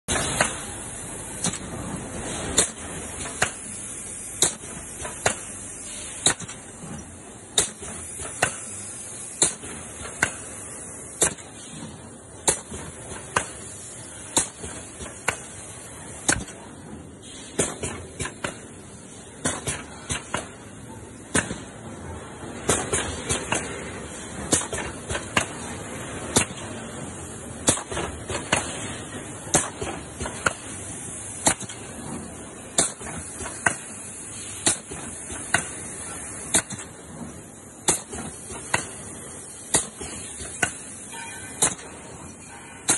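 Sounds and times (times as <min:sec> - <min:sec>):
welding machine clack: 0:00.1 - 0:16.7, 0:17.3 - 0:21.8, 0:22.5 - 0:42.9
machine hiss: 0:00.1 - 0:42.9.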